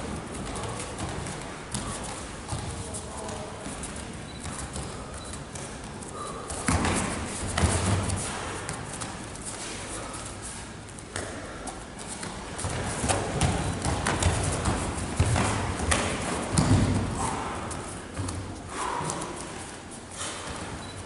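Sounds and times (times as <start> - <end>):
bare feet on foam mats: 0.0 - 21.0.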